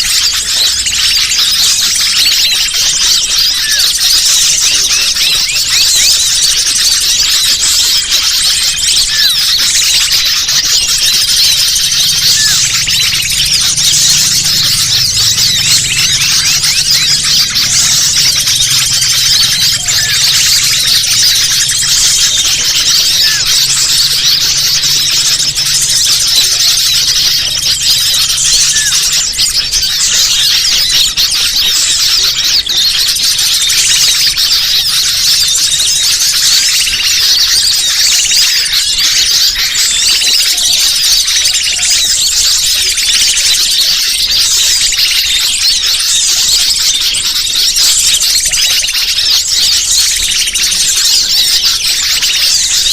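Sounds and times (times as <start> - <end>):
high-pitched bird chirps: 0.0 - 52.9.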